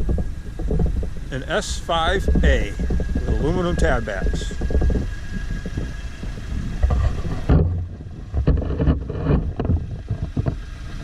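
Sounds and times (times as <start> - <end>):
low uneven rumble: 0.0 - 11.0
wind buffeting microphone: 0.0 - 11.0.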